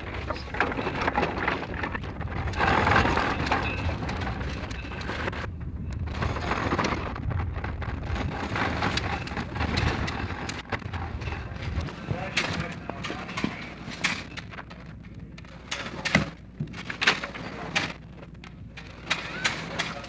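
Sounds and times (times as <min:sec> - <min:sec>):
crackling hum-laden film soundtrack: 0:00.0 - 0:20.0.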